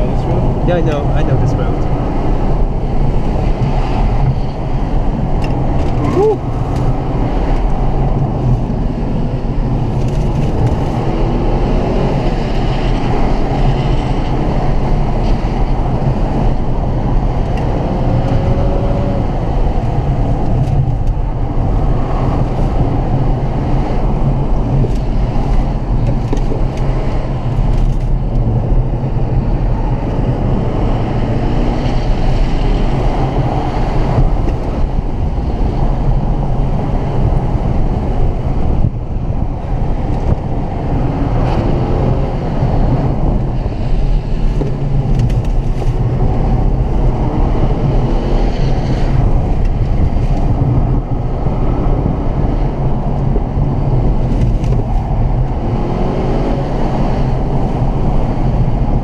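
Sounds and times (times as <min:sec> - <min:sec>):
car engine rumble inside cabin: 0:00.0 - 0:59.0
tyres on road: 0:00.0 - 0:59.0.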